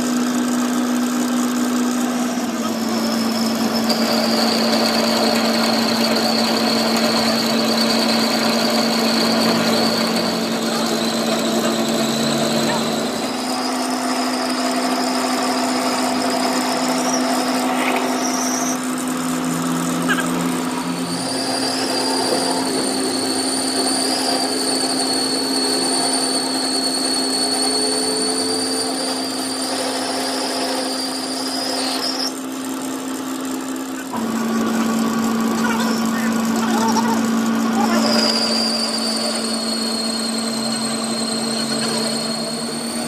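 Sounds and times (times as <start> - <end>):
machine tool motor hum: 0.0 - 43.0
thin high-pitched whine: 0.0 - 43.0.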